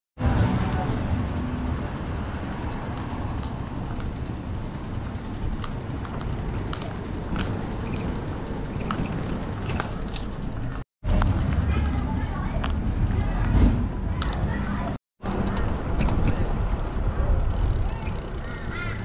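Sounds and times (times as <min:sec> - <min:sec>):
car traffic: 0:00.2 - 0:19.0
road noise from bicycle: 0:00.2 - 0:19.0.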